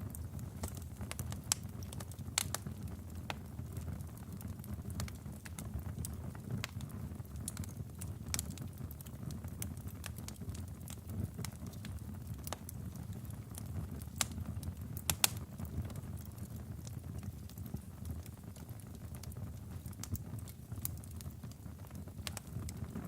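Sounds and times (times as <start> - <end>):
fire crackling and popping: 0.0 - 23.0
low rumble of flame: 0.0 - 23.0.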